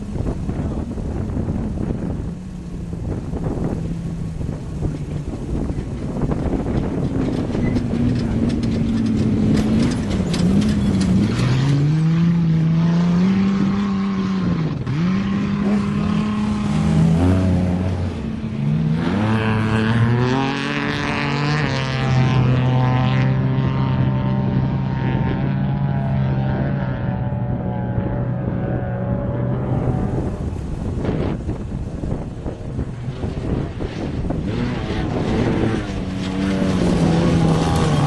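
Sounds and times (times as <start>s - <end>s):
engine revving: 3.6s - 31.4s, 32.8s - 38.0s.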